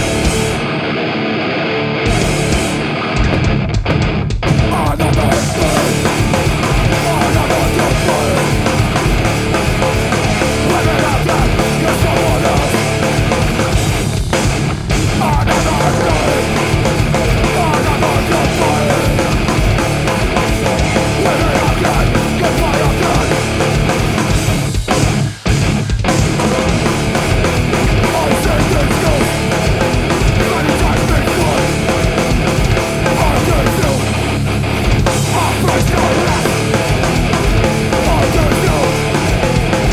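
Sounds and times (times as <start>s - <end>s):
bass guitar: 0.0s - 39.9s
distorted electric guitar: 0.0s - 39.9s
drums: 0.0s - 39.9s.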